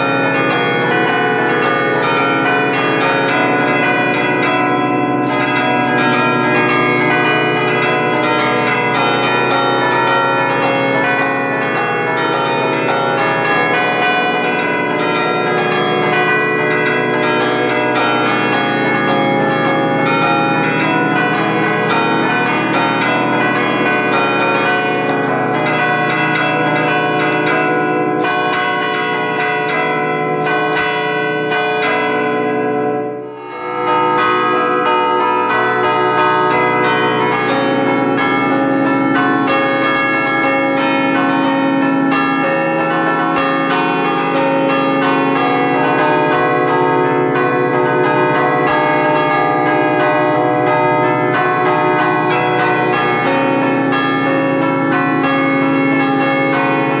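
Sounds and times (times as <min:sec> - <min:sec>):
church bells melody: 0:00.0 - 0:57.0.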